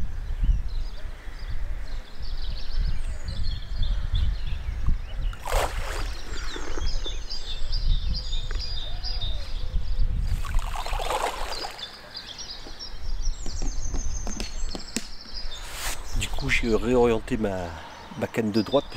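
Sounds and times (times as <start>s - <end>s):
wind buffeting microphone: 0.0s - 11.8s, 12.8s - 17.6s
small birds chirping: 0.2s - 18.9s.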